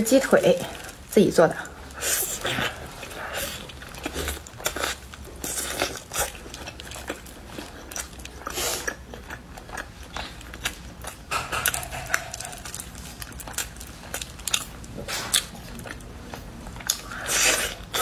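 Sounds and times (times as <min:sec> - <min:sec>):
person eating chicken wetly: 0:02.0 - 0:18.0.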